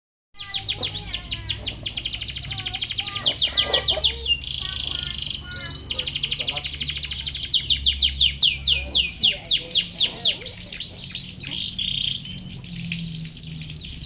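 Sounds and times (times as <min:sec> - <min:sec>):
canary singing: 0:00.4 - 0:12.4.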